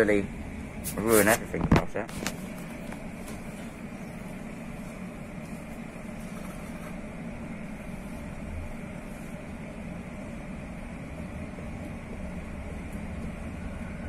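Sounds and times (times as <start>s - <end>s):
electric train interior hum: 0.0s - 14.0s.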